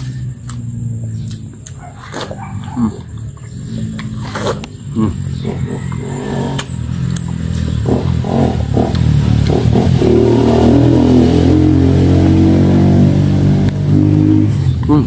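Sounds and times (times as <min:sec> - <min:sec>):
motor engine running: 0:02.6 - 0:15.0.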